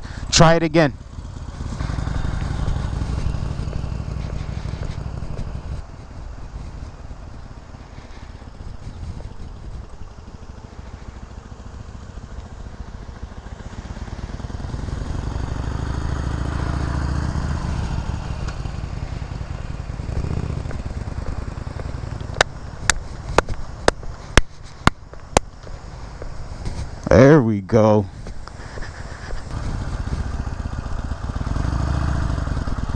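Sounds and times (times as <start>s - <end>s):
motorcycle engine running: 0.0s - 27.2s, 28.1s - 32.9s.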